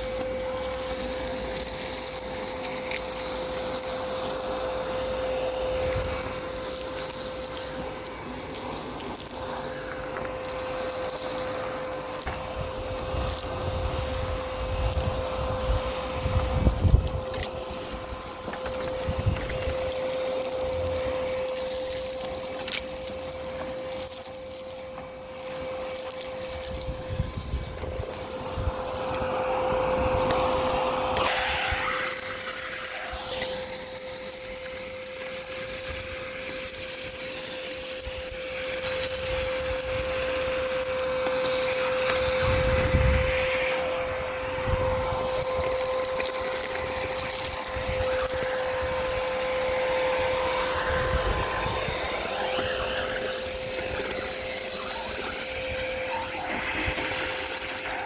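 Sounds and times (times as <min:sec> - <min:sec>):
vacuum motor whine: 0:00.0 - 0:58.0.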